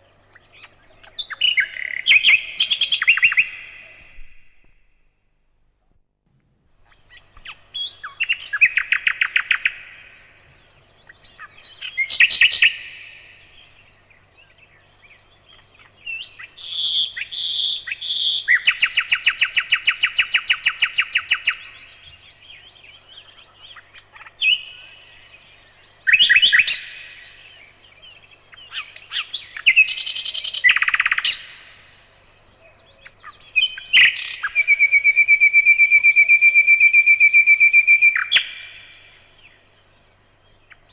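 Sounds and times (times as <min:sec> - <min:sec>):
nightingale singing: 0:00.0 - 0:05.0, 0:06.7 - 0:40.9.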